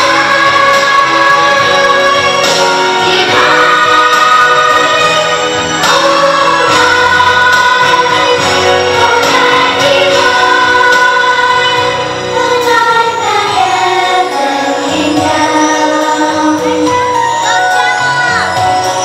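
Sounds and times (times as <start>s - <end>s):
children singing: 0.0s - 19.0s
musical accompaniment: 0.0s - 19.0s.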